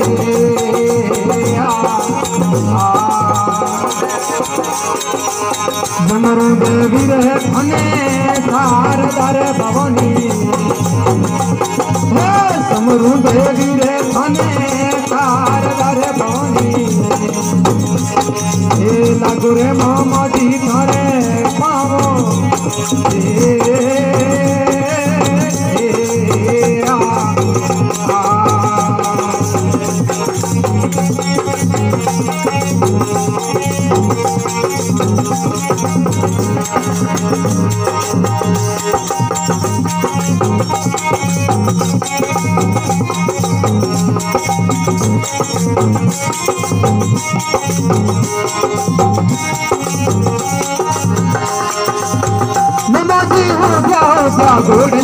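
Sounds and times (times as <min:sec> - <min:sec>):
jingling hand percussion: 0:00.0 - 0:55.0
steady drum beat: 0:00.0 - 0:55.0
wavering devotional melody: 0:00.0 - 0:55.0.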